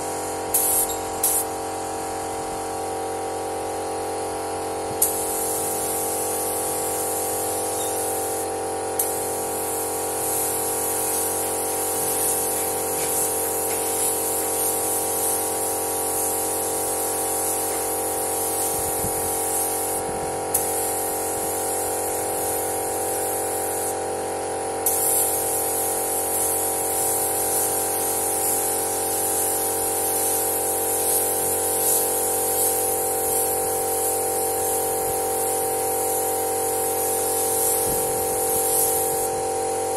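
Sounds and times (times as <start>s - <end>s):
spray gun air hissing: 0.0s - 39.9s.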